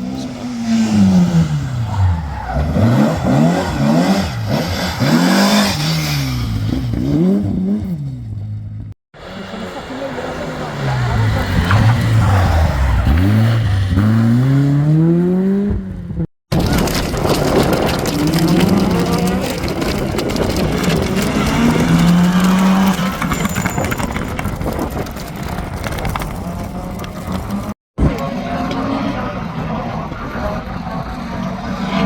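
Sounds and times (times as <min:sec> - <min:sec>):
rally car engine accelerating: 0:00.0 - 0:08.5, 0:09.2 - 0:32.0
tyre and road noise: 0:00.0 - 0:32.0.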